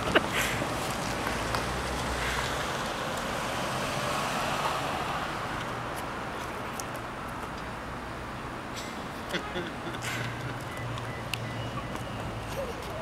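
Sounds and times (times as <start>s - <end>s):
vehicle passing: 0.0s - 7.3s, 9.0s - 13.0s.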